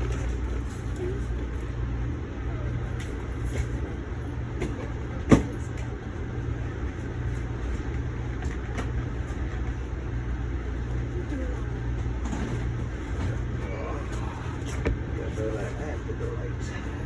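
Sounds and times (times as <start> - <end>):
train car low rumble: 0.0 - 17.0.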